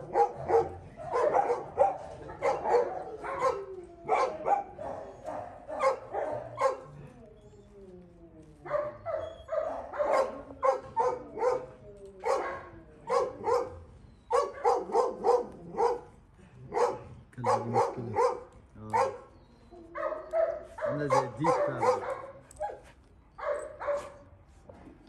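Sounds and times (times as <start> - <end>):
dogs barking: 0.0 - 7.2, 8.6 - 24.3.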